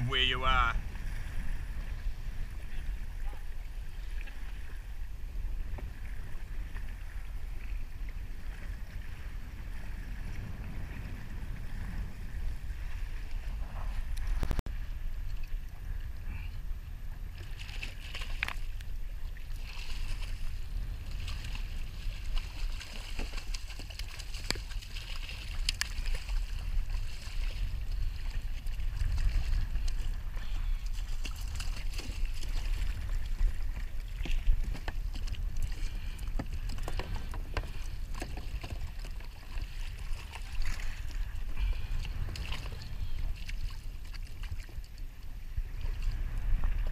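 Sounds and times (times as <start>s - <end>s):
water sloshing against hull: 0.0s - 46.9s
wind rumbling on microphone: 0.0s - 46.9s.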